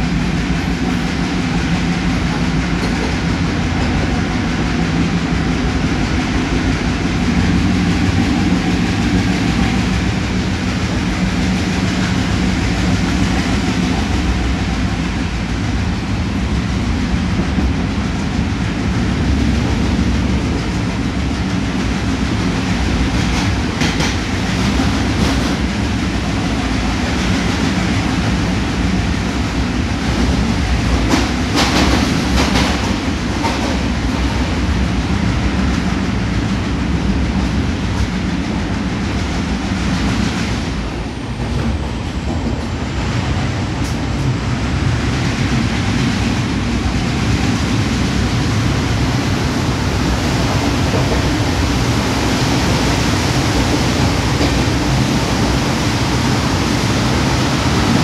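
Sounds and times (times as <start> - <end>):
diesel locomotives chugging: 0.0 - 58.0
train wheels clattering on rails: 0.0 - 58.0.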